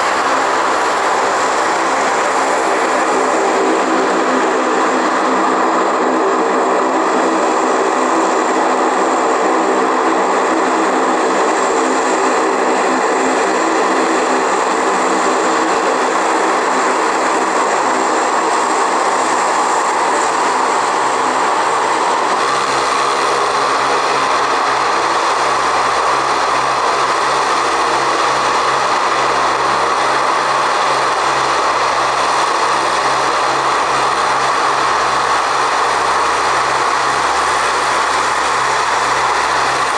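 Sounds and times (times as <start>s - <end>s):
aircraft engines running: 0.0s - 39.9s.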